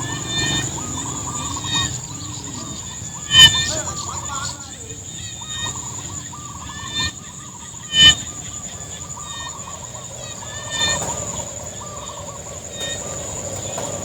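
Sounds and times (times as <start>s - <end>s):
insects droning: 0.0s - 14.0s
short chirping calls: 0.0s - 14.0s
wavering animal calls: 0.0s - 14.0s.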